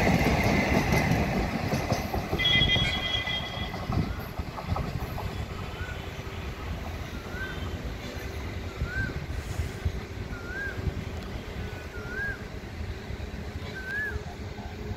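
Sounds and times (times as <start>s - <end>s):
train coaches rumbling on rails: 0.0s - 14.9s.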